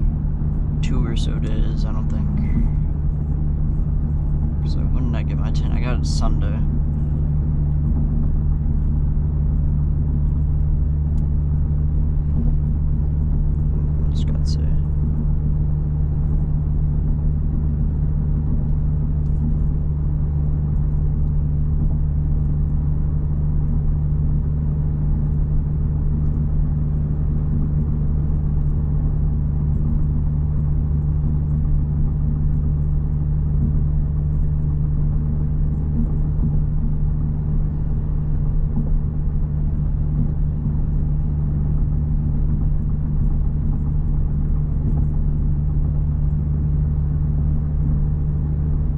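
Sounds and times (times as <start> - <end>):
car engine drone from inside: 0.0 - 48.9.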